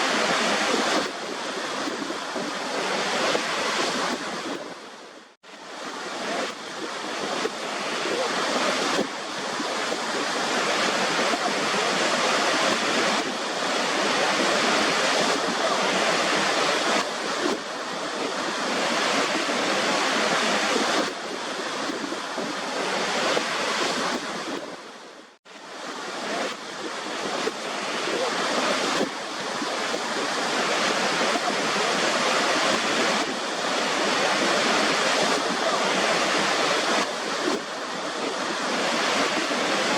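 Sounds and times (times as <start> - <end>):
waterfall rushing: 0.0 - 25.0, 25.6 - 39.9.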